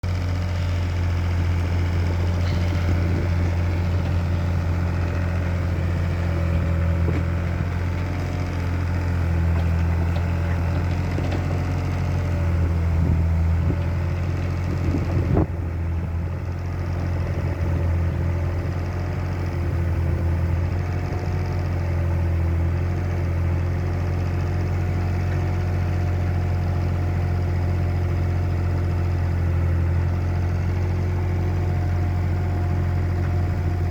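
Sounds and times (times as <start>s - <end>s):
vehicle engine humming: 0.0s - 33.9s.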